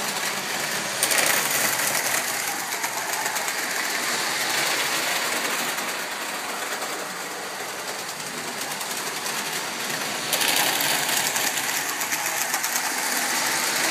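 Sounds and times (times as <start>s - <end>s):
wheels clattering on rail: 0.0s - 13.9s.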